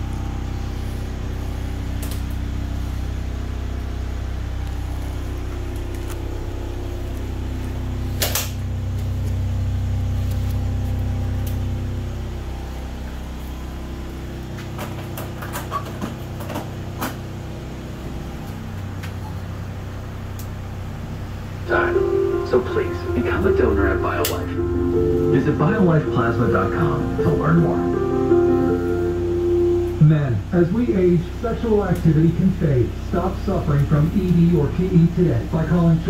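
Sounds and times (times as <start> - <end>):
low machine hum: 0.0 - 36.0.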